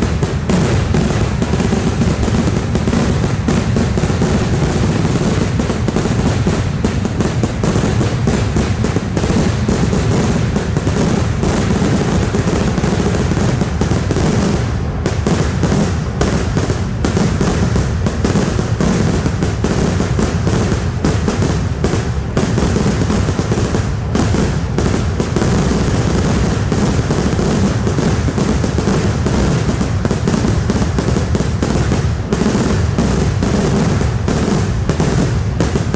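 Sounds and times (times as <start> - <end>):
rapid firecracker bangs: 0.0 - 35.9.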